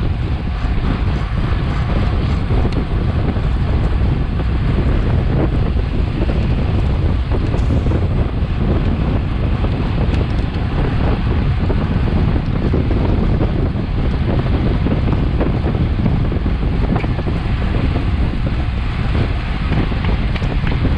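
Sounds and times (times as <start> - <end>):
wind noise on microphone: 0.0 - 20.9.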